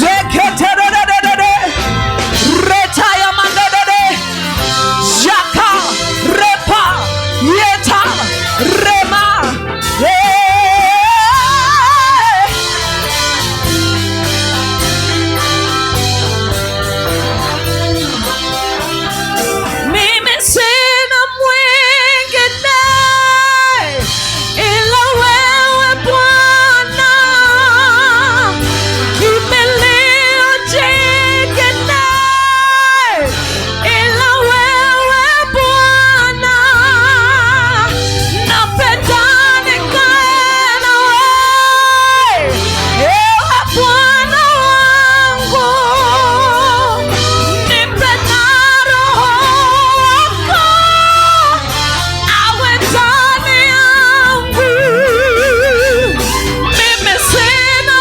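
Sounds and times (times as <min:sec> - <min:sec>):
gospel band playing: 0:00.0 - 0:58.0
person singing with vibrato: 0:00.0 - 0:58.0.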